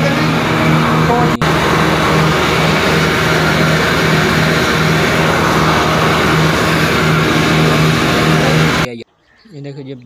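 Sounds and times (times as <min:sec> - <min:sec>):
machine engine running with pulsing hum: 0:00.0 - 0:08.9.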